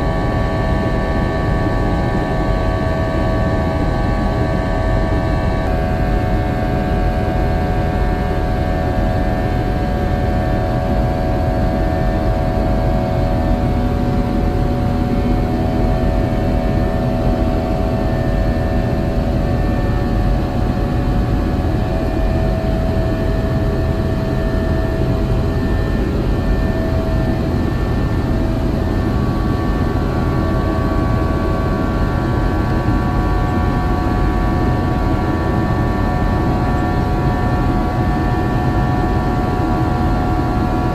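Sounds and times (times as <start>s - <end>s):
jet engines heard from cabin: 0.0s - 40.9s.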